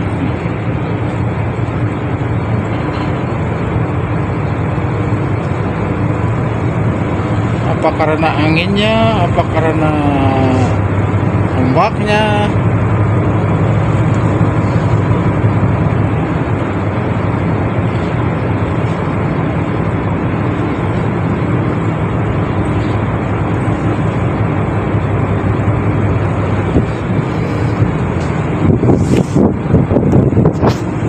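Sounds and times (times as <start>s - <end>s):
even rushing noise: 0.0s - 31.0s
ship engine droning: 0.0s - 31.0s.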